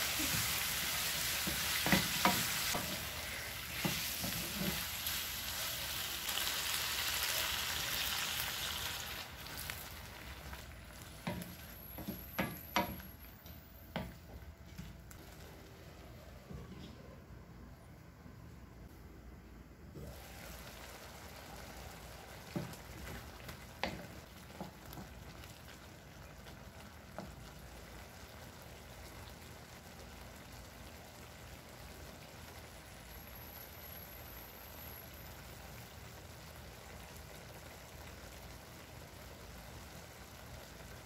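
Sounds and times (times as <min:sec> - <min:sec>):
sauce bubbling and sizzling: 0:00.0 - 0:16.3, 0:20.0 - 0:41.0.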